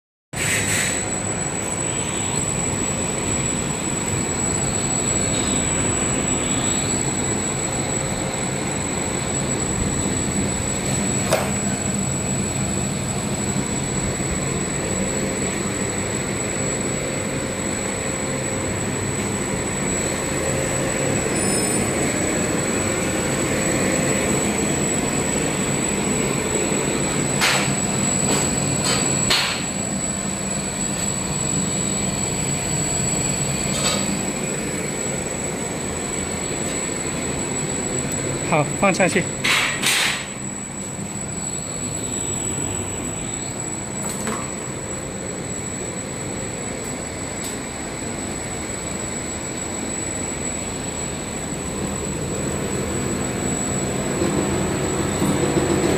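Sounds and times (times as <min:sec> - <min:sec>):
machine rumbling and humming: 0:00.4 - 0:55.9
thin high whine: 0:00.4 - 0:55.9.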